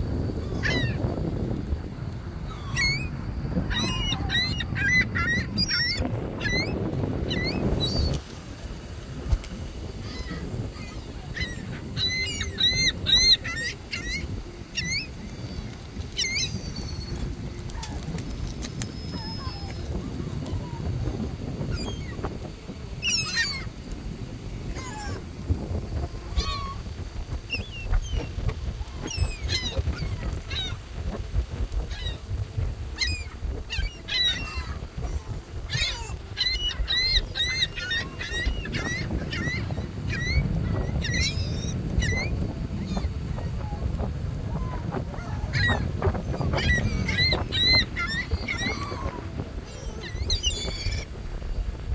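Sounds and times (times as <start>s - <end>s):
gulls crying: 0.0s - 51.9s.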